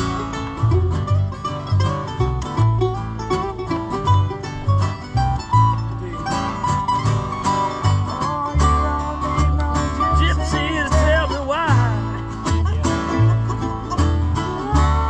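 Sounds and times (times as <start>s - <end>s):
bluegrass band playing: 0.0s - 15.0s
low bass notes: 0.0s - 15.0s.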